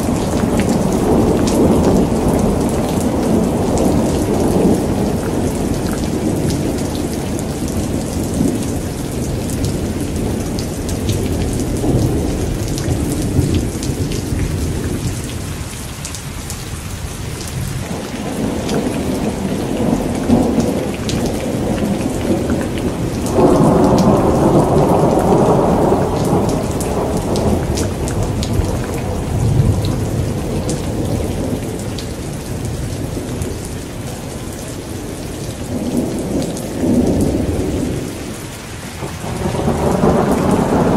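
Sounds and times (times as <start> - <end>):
thunder rumbling: 0.0 - 15.6, 17.3 - 34.4, 35.0 - 40.9
rain hissing: 0.0 - 40.9.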